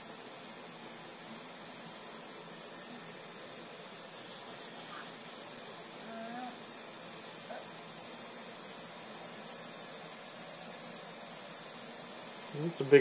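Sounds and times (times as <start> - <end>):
room noise hiss: 0.0 - 13.0.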